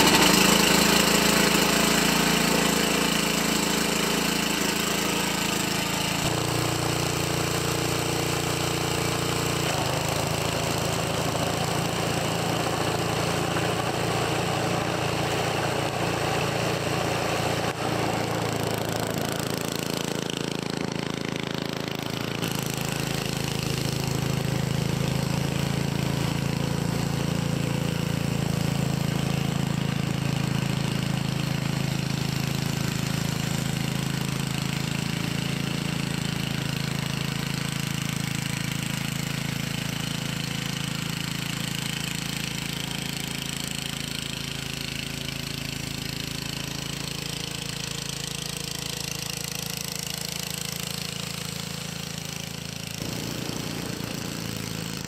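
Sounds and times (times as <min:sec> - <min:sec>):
auger churning through snow: 0:00.0 - 0:55.0
snowblower engine running: 0:00.0 - 0:55.0.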